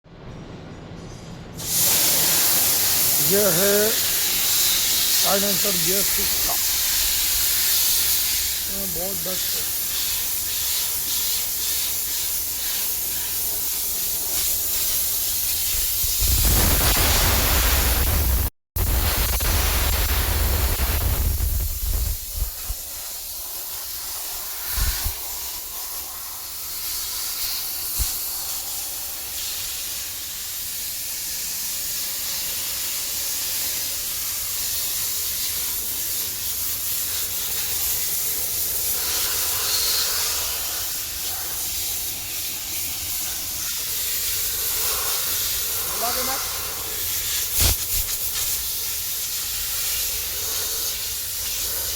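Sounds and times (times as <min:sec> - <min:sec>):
high-pressure water jet hissing: 0:01.6 - 0:51.9.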